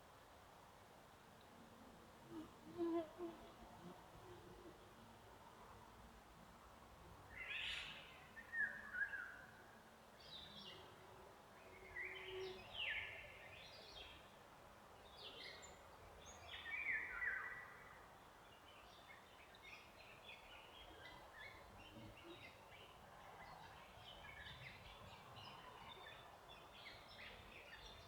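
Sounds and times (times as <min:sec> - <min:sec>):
faint background hiss: 0:00.0 - 0:28.0.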